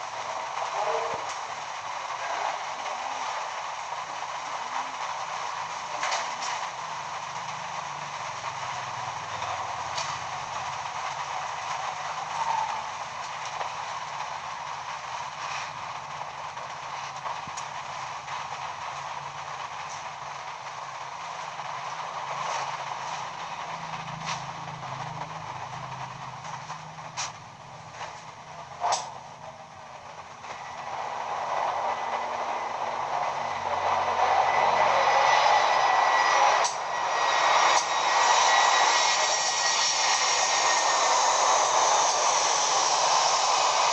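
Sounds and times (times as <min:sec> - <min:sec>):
ceiling fan air rush: 0:00.0 - 0:43.9.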